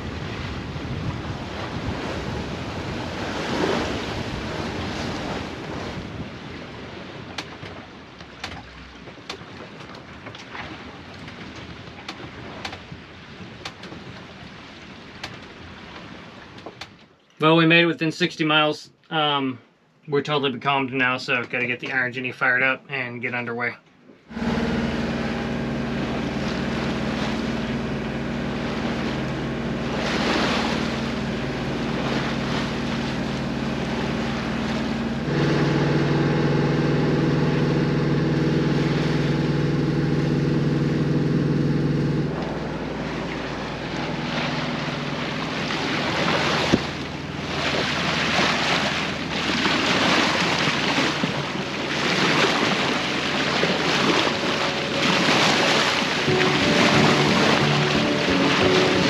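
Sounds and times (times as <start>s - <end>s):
boat engine running: 0.0s - 17.6s, 24.0s - 59.0s
water splashing along hull: 0.0s - 17.7s, 24.0s - 59.0s
wind: 0.0s - 59.0s.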